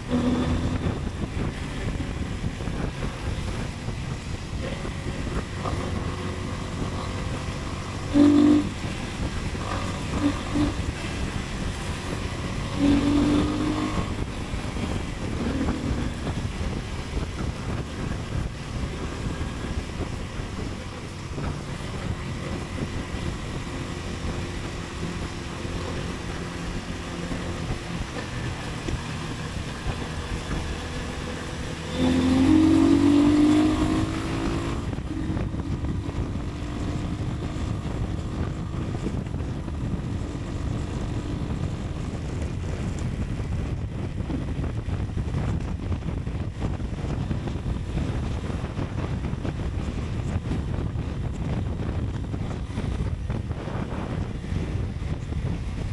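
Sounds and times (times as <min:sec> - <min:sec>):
motorcycle engine revving: 0:00.0 - 0:55.9
motorcycle engine rumble: 0:00.0 - 0:55.9
wind on microphone: 0:00.0 - 0:55.9.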